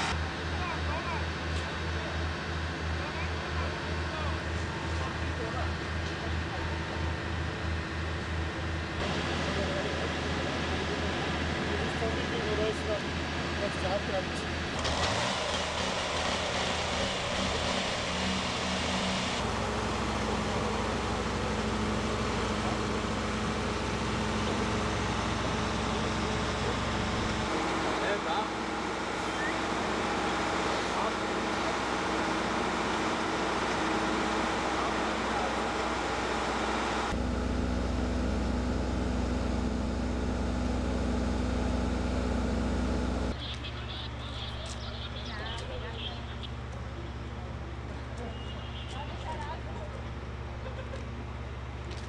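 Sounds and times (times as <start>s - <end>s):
deep engine hum: 0.0s - 48.8s
fire pump engine running: 0.0s - 52.0s.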